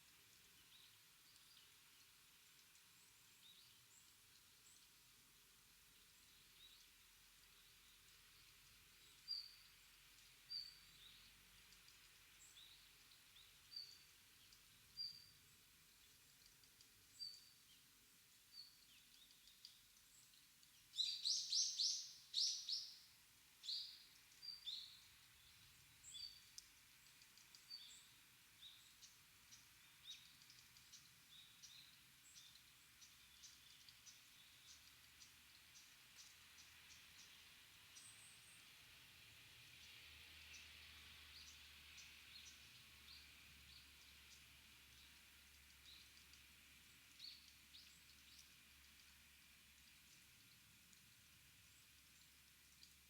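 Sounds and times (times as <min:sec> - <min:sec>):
faint background hiss: 0:00.0 - 0:53.0
small birds chirping: 0:05.9 - 0:39.0, 0:39.7 - 0:53.0.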